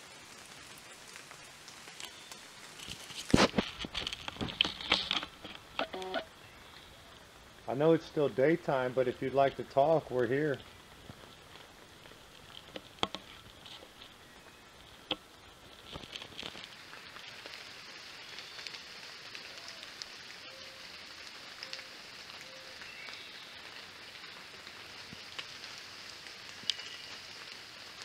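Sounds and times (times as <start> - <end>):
creek trickling over rocks: 0.0 - 28.0.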